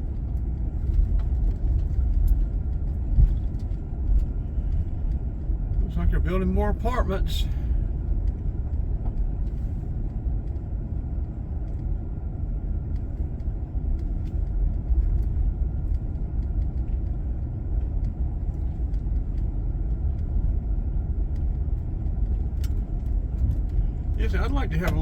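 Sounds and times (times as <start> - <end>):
van engine and road noise: 0.0 - 25.0.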